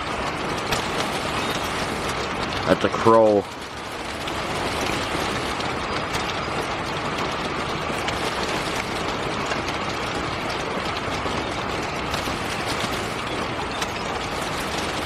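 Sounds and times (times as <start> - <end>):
rain falling: 0.0 - 15.0
raindrops ticking on surfaces: 0.0 - 15.0.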